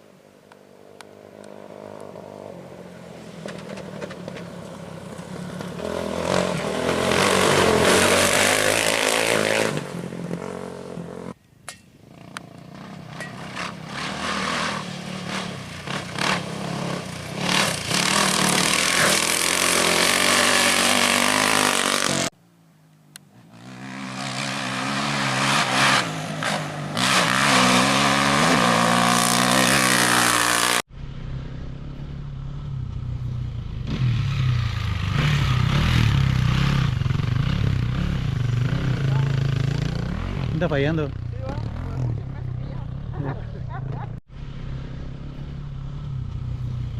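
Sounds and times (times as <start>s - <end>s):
motorcycle engines revving past: 1.0s - 11.4s, 12.0s - 22.4s, 23.4s - 46.9s.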